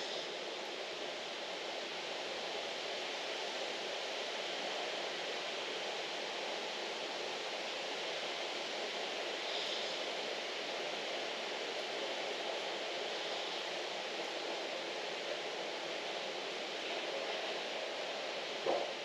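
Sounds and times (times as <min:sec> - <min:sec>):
rain on roofs and trees: 0:00.0 - 0:19.0.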